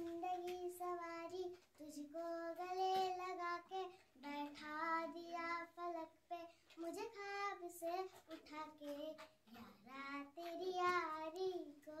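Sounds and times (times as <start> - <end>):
girl singing unaccompanied: 0.0 - 12.0.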